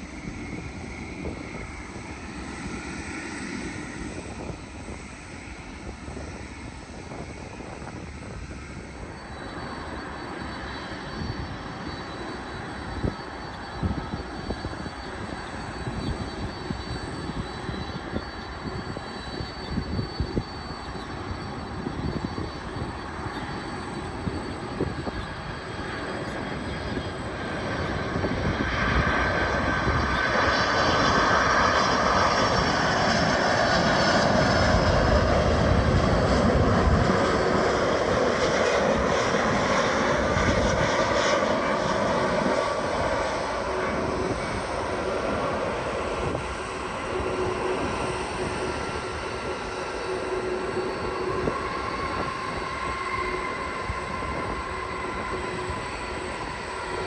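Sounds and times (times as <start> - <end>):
jet airliner passing: 0.0 - 57.0
steady engine whine: 0.0 - 57.0.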